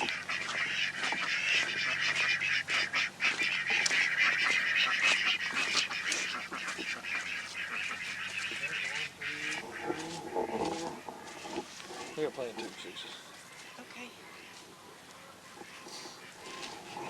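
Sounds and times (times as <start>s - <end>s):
flock of farm birds calling: 0.0s - 17.0s.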